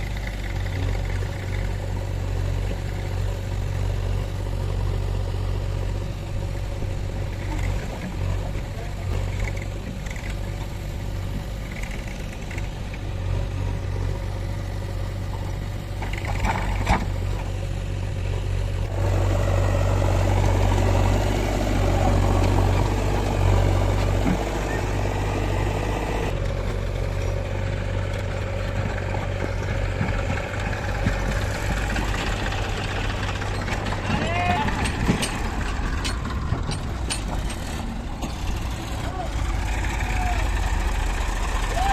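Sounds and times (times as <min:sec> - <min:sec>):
diesel engines droning: 0:00.0 - 0:41.9.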